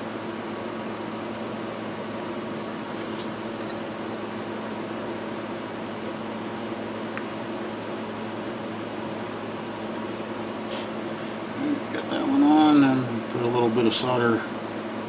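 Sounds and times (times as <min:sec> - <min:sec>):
fan hum and hiss: 0:00.0 - 0:15.0.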